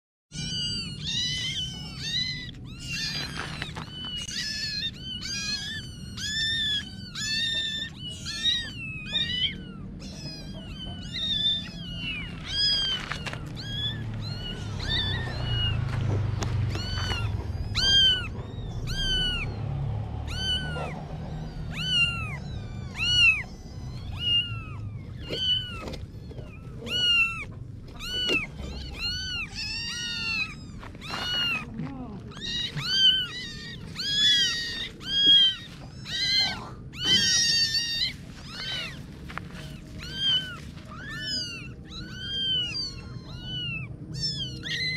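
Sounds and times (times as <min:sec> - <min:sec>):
kittens meowing: 0:00.3 - 0:44.9.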